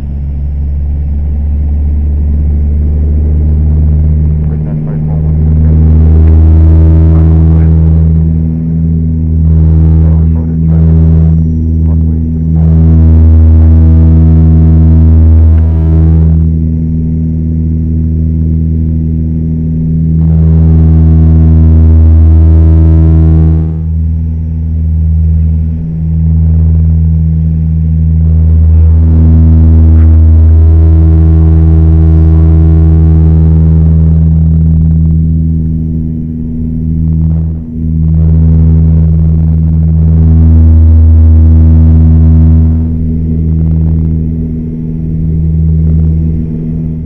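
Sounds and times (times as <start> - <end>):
propeller engine drone: 0.0 - 47.0.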